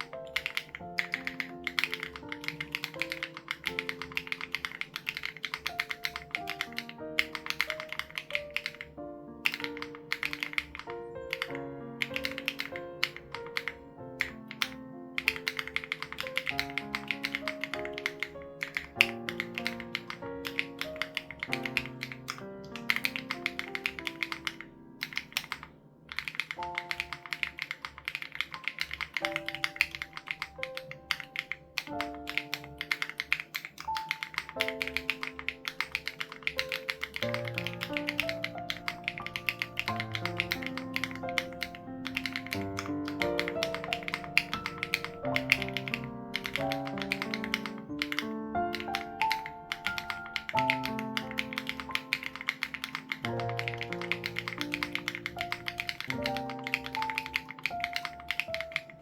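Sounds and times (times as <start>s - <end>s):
mechanical keyboard key clacks: 0.0s - 59.0s
soft background music: 0.0s - 59.0s.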